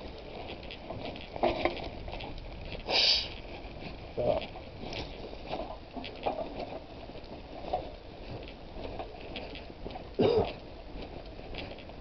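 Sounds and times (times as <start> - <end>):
footsteps on tarmac: 0.0 - 12.0
wind: 0.0 - 12.0.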